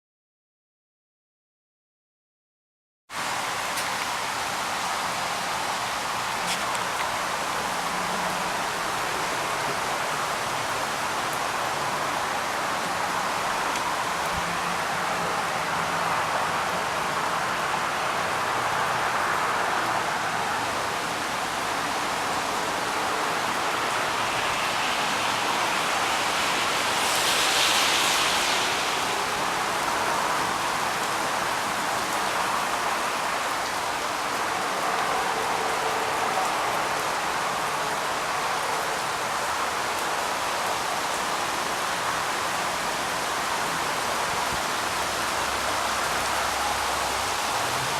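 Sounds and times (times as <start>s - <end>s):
rain falling steadily: 3.1s - 47.9s.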